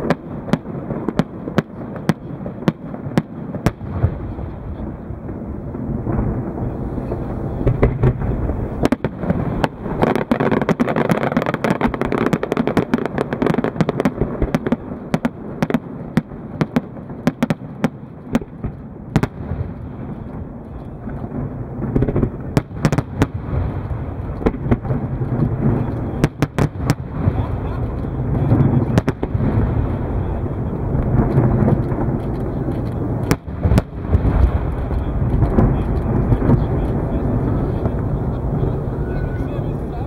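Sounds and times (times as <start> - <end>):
steady low rumble: 0.0 - 10.9, 12.8 - 40.0
fireworks bangs and crackles: 0.0 - 40.0.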